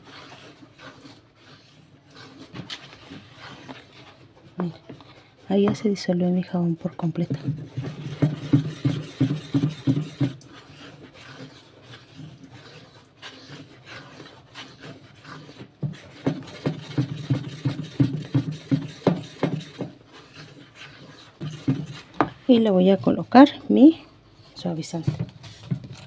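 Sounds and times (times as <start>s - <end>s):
soapy water sloshing: 0.0s - 5.6s, 7.0s - 23.0s.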